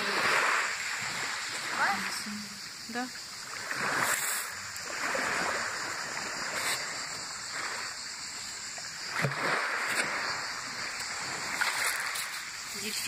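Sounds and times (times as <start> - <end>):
waves on pebble beach: 0.0 - 13.0.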